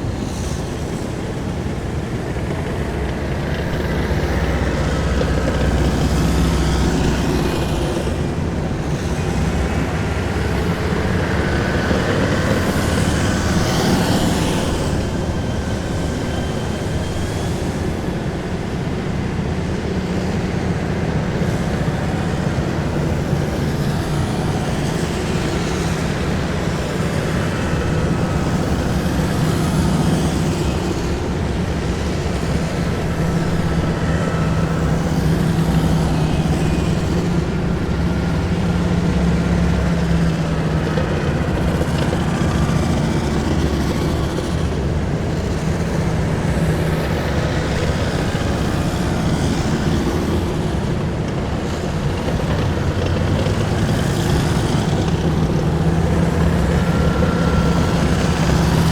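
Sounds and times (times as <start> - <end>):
engine hum: 0.0 - 58.9
heavy vehicles engine rumble: 0.0 - 58.9.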